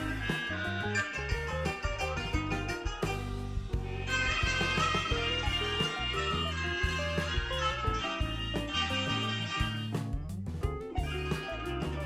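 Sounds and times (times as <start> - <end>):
instrumental music from television: 0.0 - 12.0.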